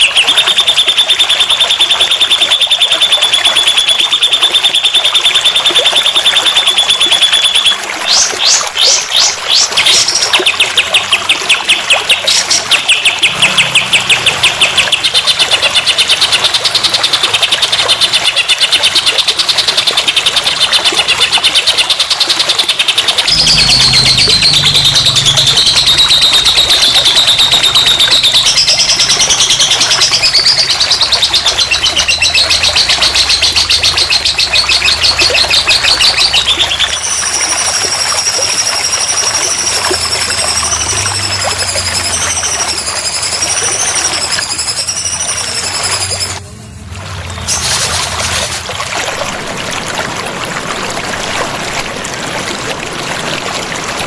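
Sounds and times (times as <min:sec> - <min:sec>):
fast rattling bird trills: 0:00.0 - 0:46.5.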